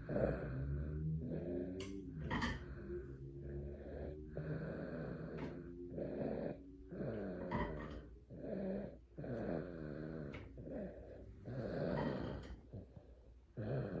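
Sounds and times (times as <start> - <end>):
baby snoring: 0.0 - 1.8, 2.6 - 13.0, 13.6 - 14.0.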